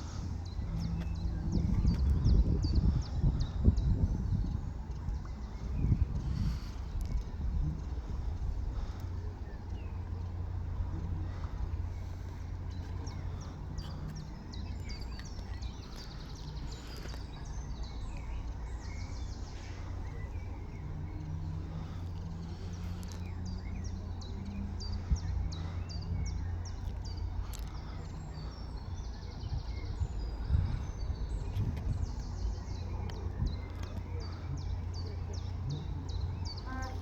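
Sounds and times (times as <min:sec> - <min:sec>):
faint low hum: 0:00.0 - 0:37.0
high chirps of birds or insects: 0:00.0 - 0:37.0
wind rumble on microphone: 0:00.0 - 0:37.0.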